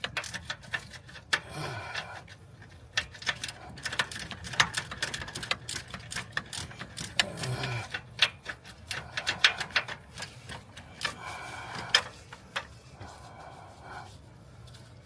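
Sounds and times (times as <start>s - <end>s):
hand ratchet clicking: 0.0s - 12.7s.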